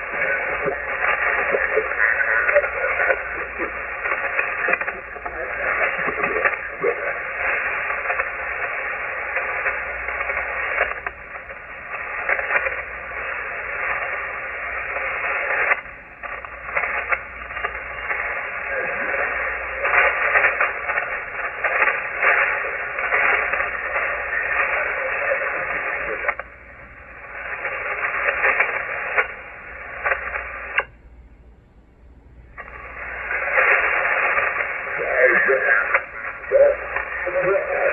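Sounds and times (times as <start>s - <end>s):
radio static hiss and crackle: 0.0s - 37.9s.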